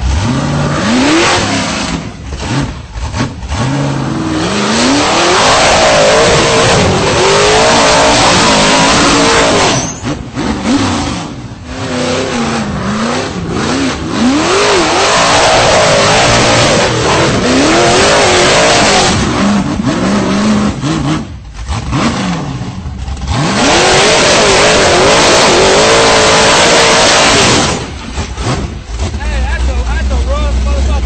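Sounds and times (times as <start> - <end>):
buggy engine revving hard: 0.0 - 31.0.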